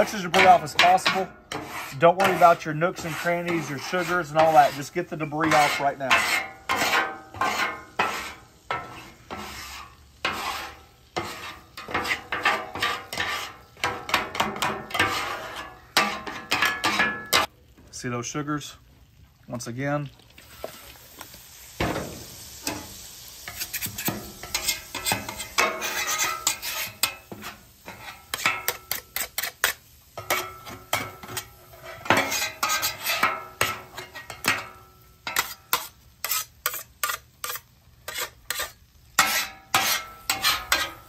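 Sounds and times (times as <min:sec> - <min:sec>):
metal spatula scraping a griddle: 0:00.0 - 0:17.5, 0:21.8 - 0:41.0
water sizzling on hot metal: 0:00.0 - 0:41.0.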